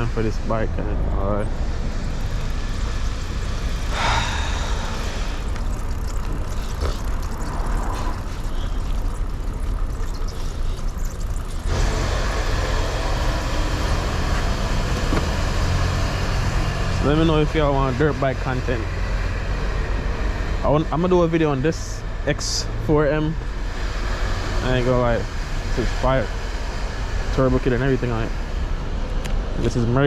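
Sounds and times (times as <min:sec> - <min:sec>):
low rumble of vehicle engines: 0:00.0 - 0:30.0.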